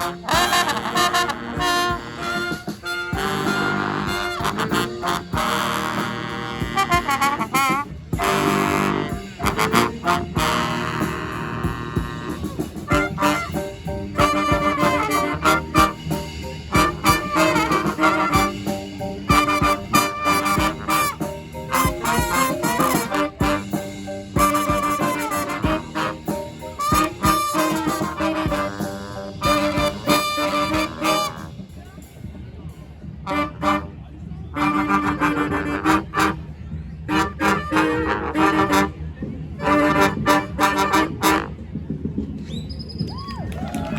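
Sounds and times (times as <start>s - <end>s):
brass band playing: 0.0s - 32.2s, 33.2s - 41.8s.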